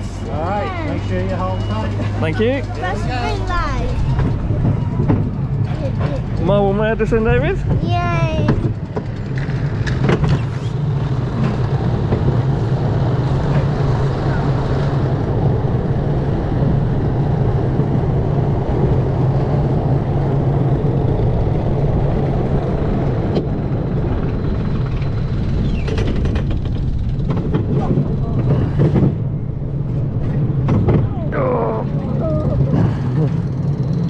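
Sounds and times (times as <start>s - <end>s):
amusement ride mechanical hum: 0.0s - 34.0s.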